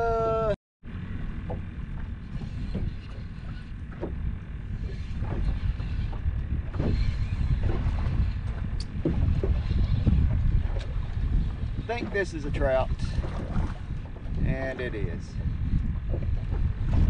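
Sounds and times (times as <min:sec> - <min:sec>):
wind rumbling on microphone: 0:00.0 - 0:17.0
water slapping metal boat hull: 0:00.9 - 0:17.0.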